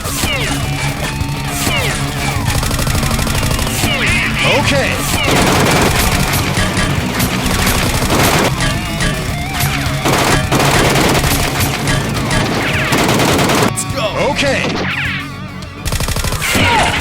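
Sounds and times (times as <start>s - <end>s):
gunfire bursts: 0.0s - 13.8s, 15.8s - 16.6s
background music with low beat: 0.0s - 16.1s.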